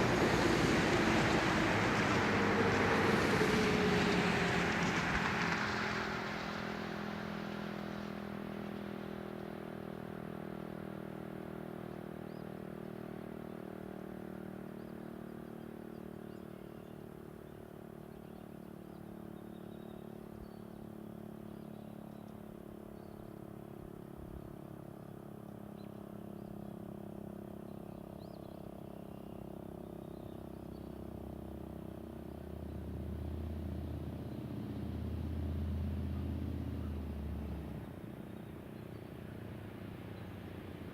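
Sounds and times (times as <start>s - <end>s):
low engine drone: 0.0s - 40.9s
vehicle rumble: 0.0s - 40.9s.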